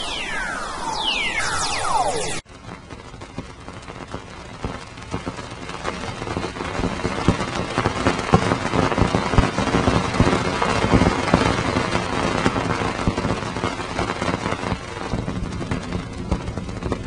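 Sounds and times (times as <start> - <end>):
rumbling crackling noise: 0.0 - 17.0.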